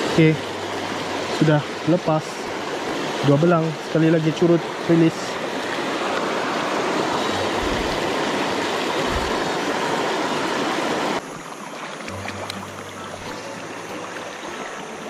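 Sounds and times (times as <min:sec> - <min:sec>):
mountain stream rushing over rapids: 0:00.0 - 0:15.0.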